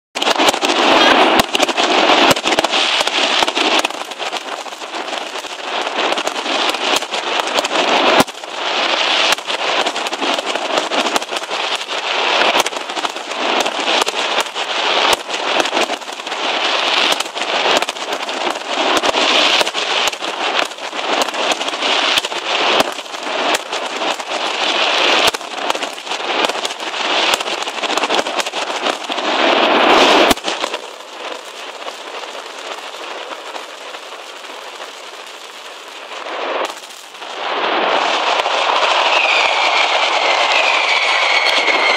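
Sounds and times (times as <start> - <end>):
firecrackers bursting: 0.2 - 41.9.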